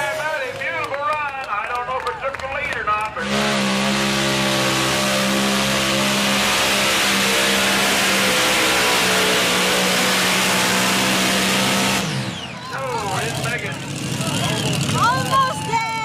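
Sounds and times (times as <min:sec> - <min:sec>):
tractor engine at full throttle: 0:00.0 - 0:16.0.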